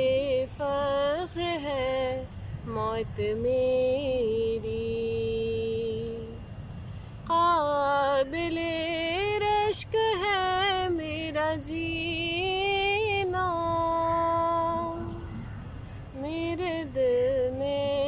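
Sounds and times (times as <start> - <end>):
woman singing unaccompanied: 0.0 - 6.6, 7.2 - 18.0.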